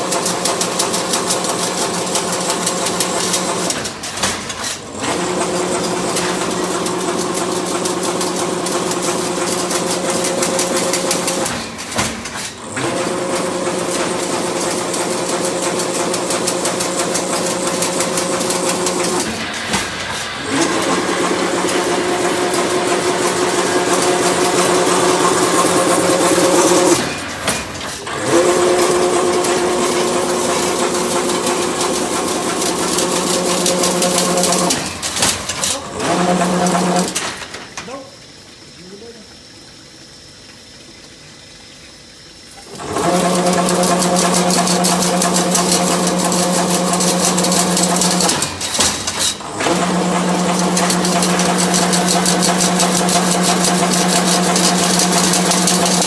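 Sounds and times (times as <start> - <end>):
weaving machine clattering: 0.0 - 38.0, 42.7 - 56.0
motor hum: 1.8 - 56.0.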